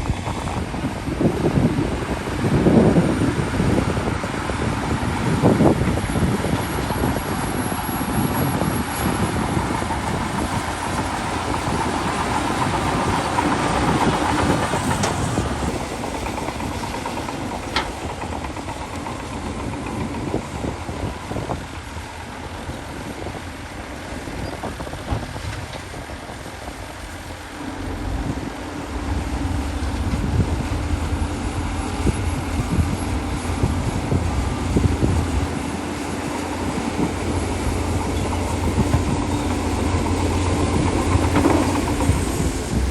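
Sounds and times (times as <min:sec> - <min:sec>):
bulldozer engine: 0:00.0 - 0:42.9
deep engine rumble: 0:00.0 - 0:42.9
steel tracks clattering: 0:00.0 - 0:42.9.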